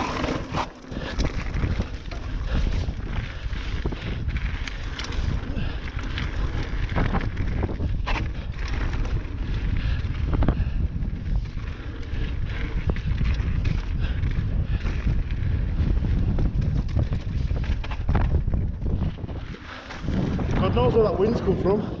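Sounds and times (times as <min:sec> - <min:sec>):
bike knocks and rattles: 0:00.0 - 0:20.7
wind buffeting microphone: 0:00.0 - 0:22.0.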